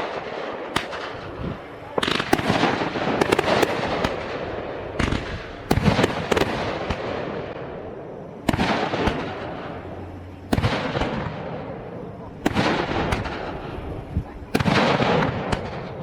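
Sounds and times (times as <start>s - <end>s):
fireworks bangs: 0.0s - 16.0s
rumbling echo: 0.0s - 16.0s.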